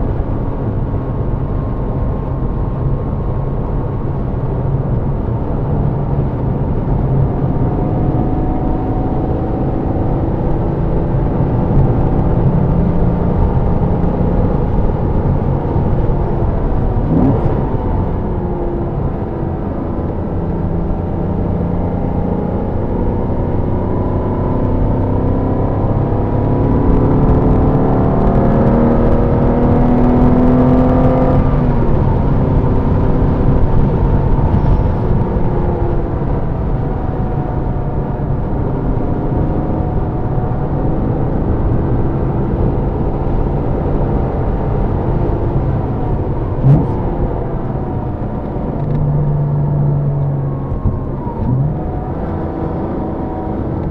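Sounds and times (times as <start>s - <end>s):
car engine revving: 0.0s - 53.9s
road and wind noise: 0.0s - 53.9s.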